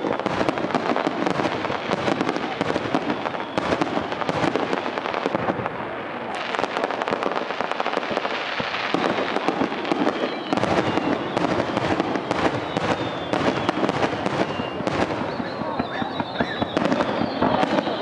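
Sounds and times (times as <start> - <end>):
thin firework whistles: 0.0 - 5.4, 6.4 - 18.0
fireworks popping and crackling: 0.0 - 18.0.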